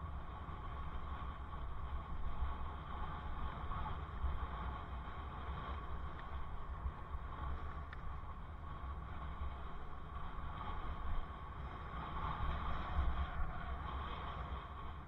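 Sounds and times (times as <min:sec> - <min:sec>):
bicycle riding noise hiss: 0:00.0 - 0:15.0
wind rumbling on microphone: 0:00.0 - 0:15.0.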